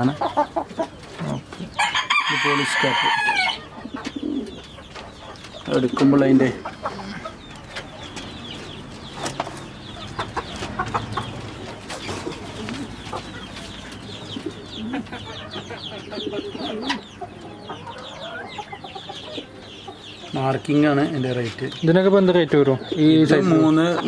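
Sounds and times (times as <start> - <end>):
chickens clucking: 0.0 - 24.0
small caged birds chirping: 0.0 - 24.0.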